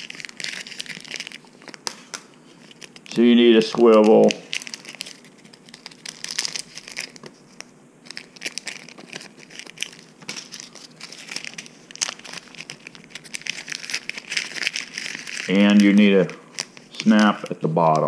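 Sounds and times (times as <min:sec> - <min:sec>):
plastic packet crinkling: 0:00.0 - 0:18.0.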